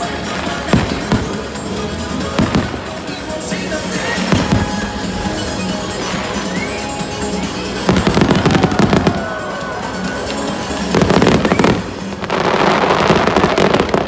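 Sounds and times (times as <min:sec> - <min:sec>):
fireworks banging and crackling: 0:00.0 - 0:14.0
music playing: 0:00.0 - 0:14.0.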